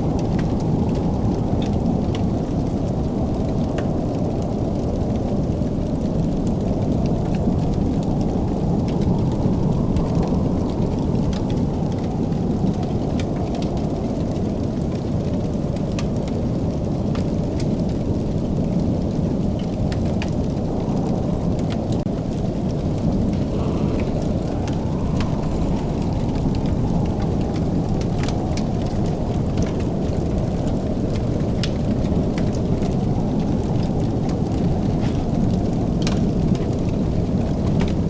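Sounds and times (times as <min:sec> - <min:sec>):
wood fire crackling: 0:00.1 - 0:38.0.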